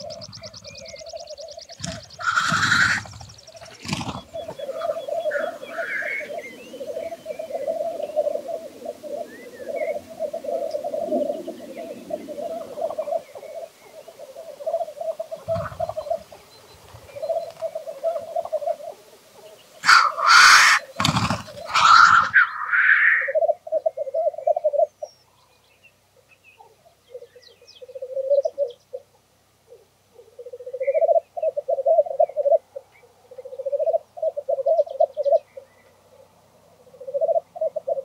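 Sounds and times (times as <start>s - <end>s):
grouse bubbling cooing song: 0.0s - 19.2s, 19.8s - 25.0s, 27.1s - 29.1s, 29.7s - 35.7s, 36.8s - 38.0s
grouse hissing call: 0.0s - 25.0s, 27.1s - 29.1s, 29.7s - 32.6s, 33.2s - 35.4s, 36.8s - 38.0s.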